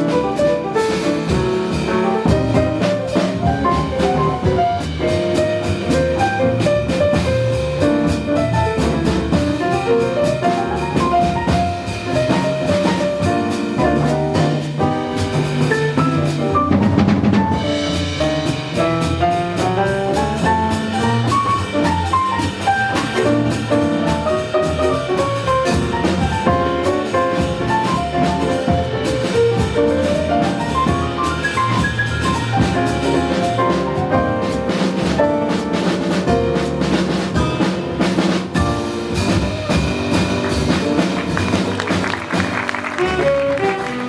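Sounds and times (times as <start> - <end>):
drum kit with cymbals: 0.0 - 44.0
fast melodic line: 0.0 - 44.0
piano comping: 0.0 - 44.0
walking bass: 0.0 - 44.0.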